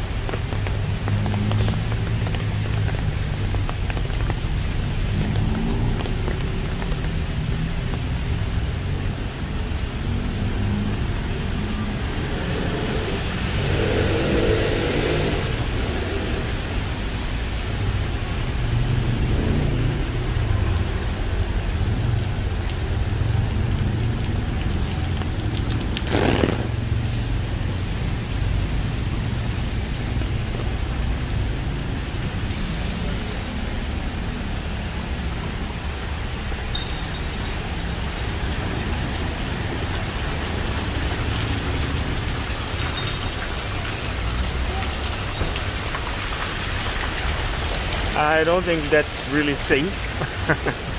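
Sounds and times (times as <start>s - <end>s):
rain on wet pavement: 0.0s - 50.9s
traffic on wet road: 0.0s - 50.9s.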